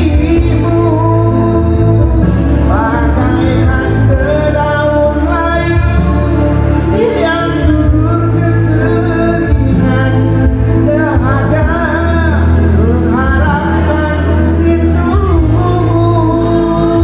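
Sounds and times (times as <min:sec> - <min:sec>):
backing track with heavy bass: 0:00.0 - 0:17.0
man singing into microphone: 0:00.0 - 0:17.0.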